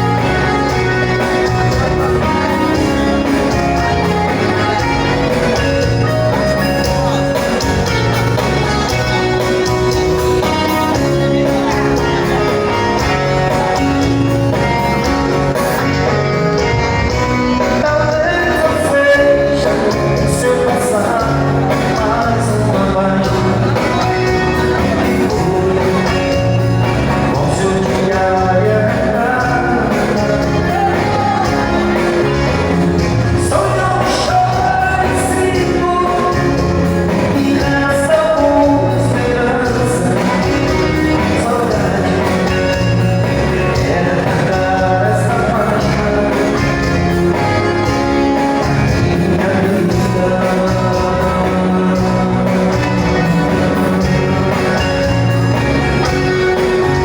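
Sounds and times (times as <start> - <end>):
live band playing: 0.0 - 57.0
person singing: 0.0 - 57.0
steady bass beat: 0.0 - 57.0.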